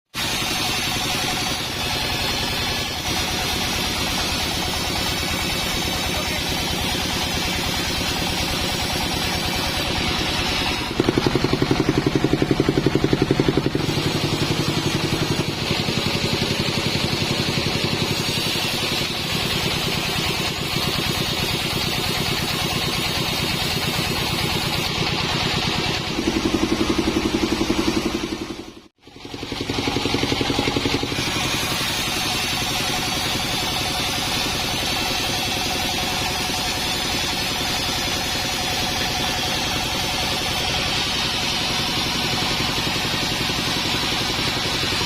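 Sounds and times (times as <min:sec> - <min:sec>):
band saw machinery running: 0:00.1 - 0:45.0.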